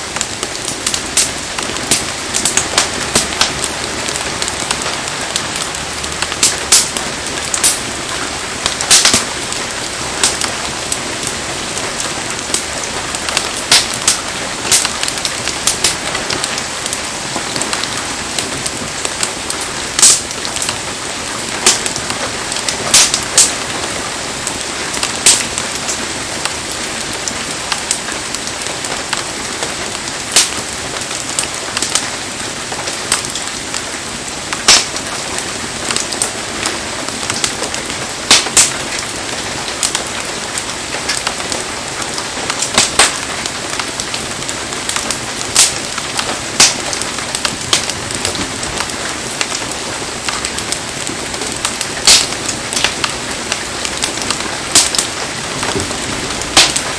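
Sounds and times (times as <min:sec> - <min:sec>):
heavy rain hissing: 0:00.0 - 0:56.9
wood fire popping and cracking: 0:00.0 - 0:56.9.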